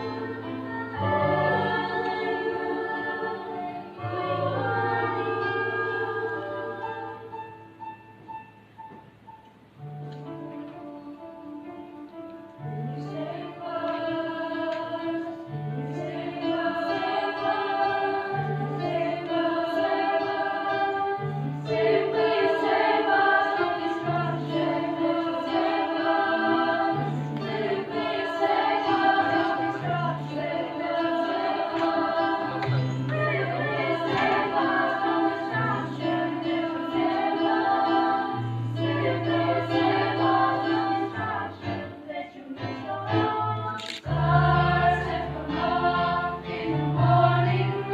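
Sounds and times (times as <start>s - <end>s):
choir singing: 0.0s - 7.7s, 12.6s - 47.9s.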